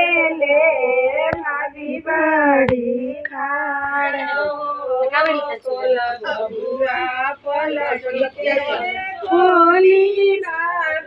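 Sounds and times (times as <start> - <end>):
women singing folk song: 0.0 - 11.0.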